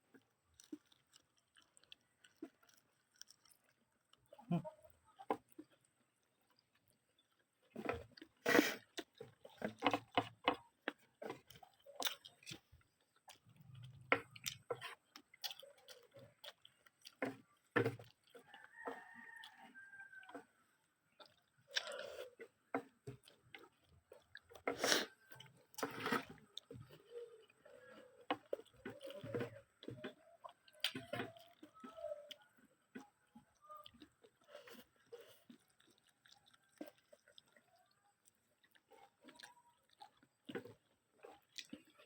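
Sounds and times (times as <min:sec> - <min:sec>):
close-up chewing and biting: 0:00.0 - 0:42.0.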